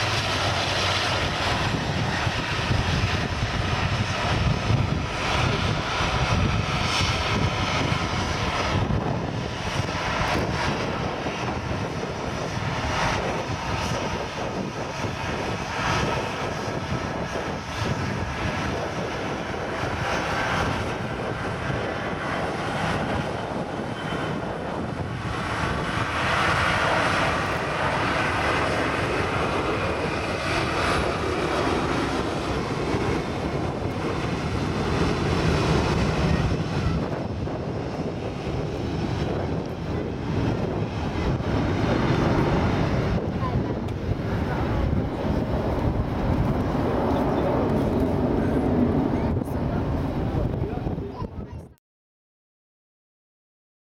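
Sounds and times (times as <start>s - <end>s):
jet engines rumble and whine: 0.0s - 51.8s.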